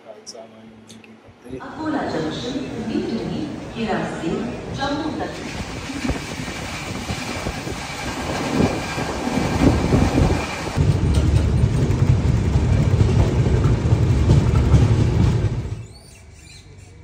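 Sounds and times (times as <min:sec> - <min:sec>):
train carriage rumbling on track: 0:01.3 - 0:16.9.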